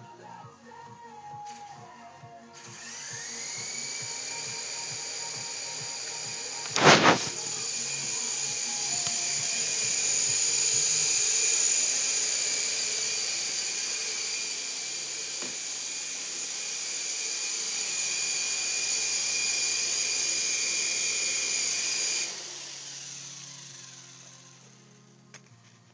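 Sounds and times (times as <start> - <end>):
toy helicopter motor whine: 2.6 - 25.7.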